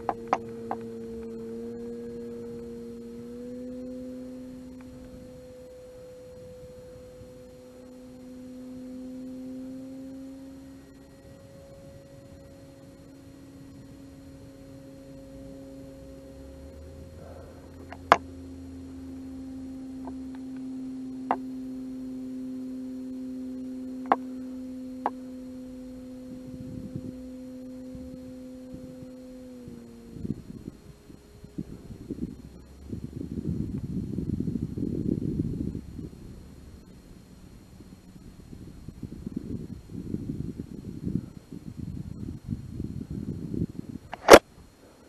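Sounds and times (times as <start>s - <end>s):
model plane motor droning: 0.0s - 45.0s.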